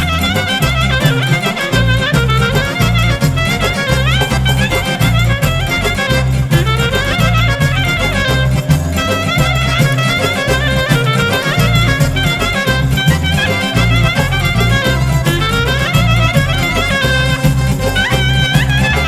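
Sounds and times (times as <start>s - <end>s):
pulsing bass beat: 0.0s - 19.0s
violin melody: 0.0s - 19.0s.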